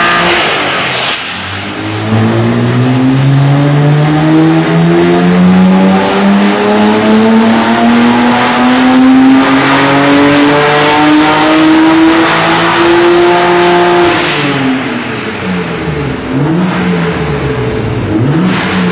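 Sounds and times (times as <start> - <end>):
car engine revving on a dyno: 0.0 - 18.9.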